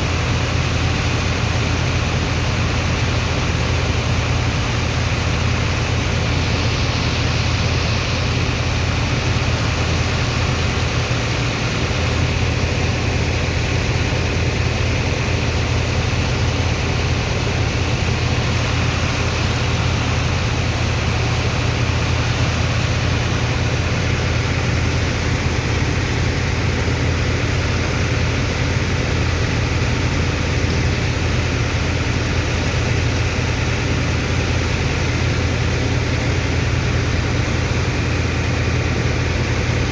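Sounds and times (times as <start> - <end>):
continuous rushing hiss: 0.0 - 39.9
heavy pump engine droning: 0.0 - 39.9.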